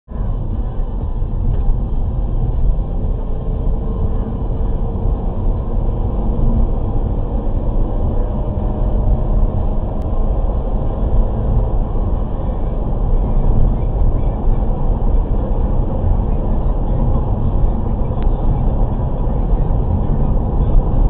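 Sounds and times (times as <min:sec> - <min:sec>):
car engine rumble: 0:00.1 - 0:21.0.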